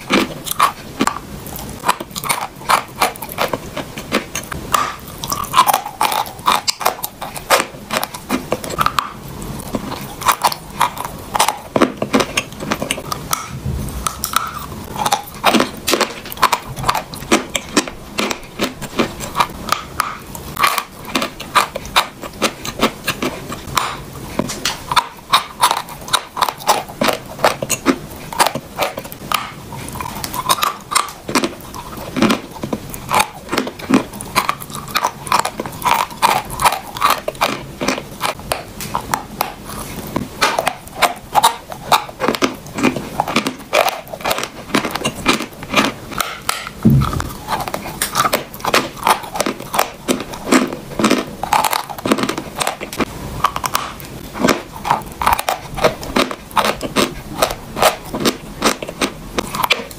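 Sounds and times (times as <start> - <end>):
chalk crunching as chewed: 0.0 - 59.9.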